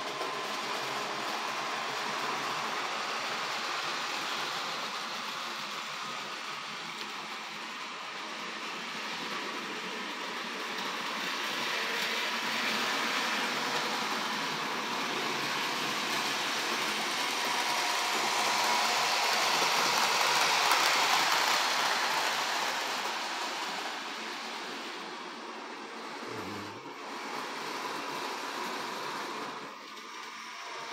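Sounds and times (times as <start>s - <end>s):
model train running on track: 0.0s - 26.1s.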